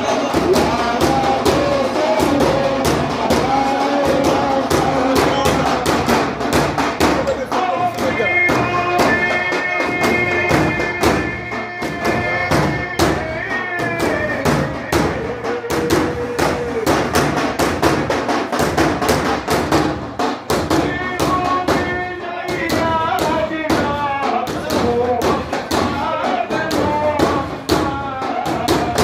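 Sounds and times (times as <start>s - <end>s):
frame drums beating: 0.0s - 29.0s.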